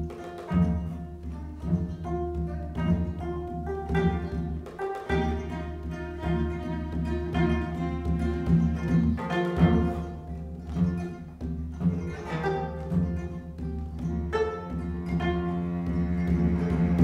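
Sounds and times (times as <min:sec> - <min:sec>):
bowed cello: 0:00.0 - 0:17.0
plucked zither notes: 0:00.0 - 0:17.0.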